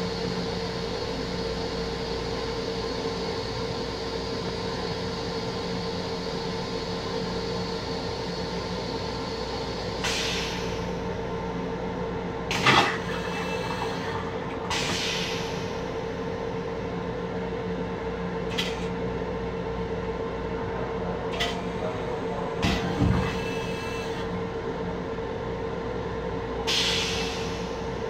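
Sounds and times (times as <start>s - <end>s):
railcar hum: 0.0s - 28.0s.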